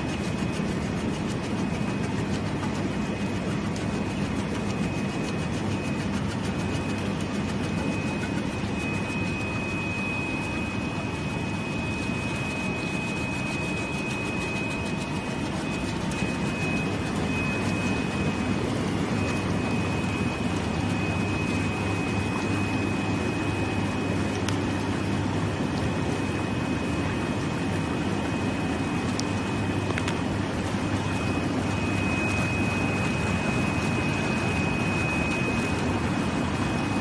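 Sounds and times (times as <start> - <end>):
high-pitched steady tone: 0.0 - 37.0.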